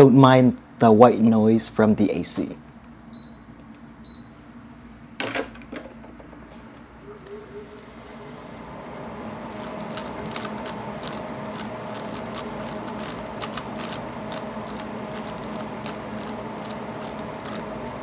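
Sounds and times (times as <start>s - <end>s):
air conditioner hum: 0.0s - 18.0s.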